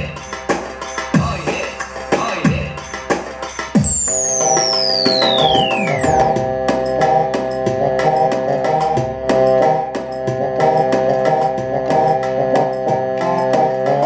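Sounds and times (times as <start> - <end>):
drum and hand-percussion rhythm: 0.0 - 14.0.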